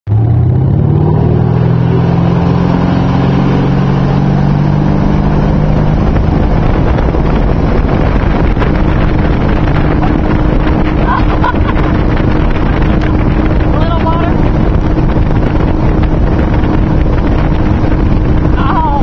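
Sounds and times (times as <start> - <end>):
boat engine running hard: 0.1 - 19.0
spray and wind rushing: 0.1 - 19.0.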